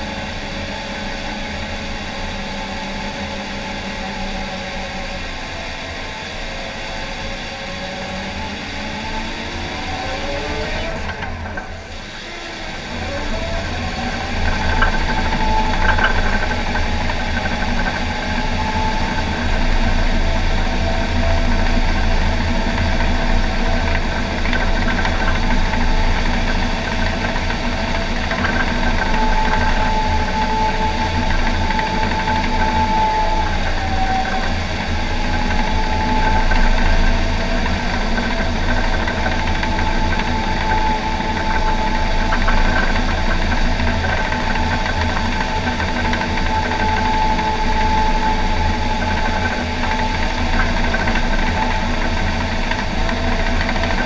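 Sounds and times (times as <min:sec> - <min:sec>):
diesel engine under load: 0:00.0 - 0:54.0
hydrostatic drive whine: 0:00.0 - 0:54.0
steel tracks clanking: 0:08.8 - 0:54.0.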